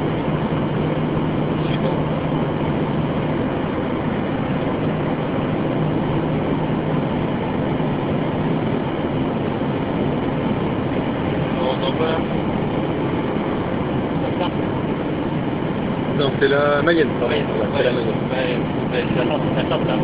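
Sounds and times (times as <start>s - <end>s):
car road noise: 0.0s - 20.0s
low engine hum: 0.0s - 20.0s.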